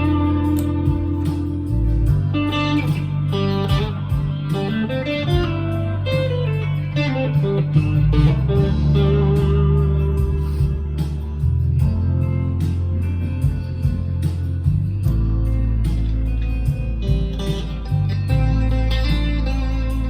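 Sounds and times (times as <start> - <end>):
backing track with bass and beat: 0.0 - 20.0
electric guitar melody: 0.0 - 20.0.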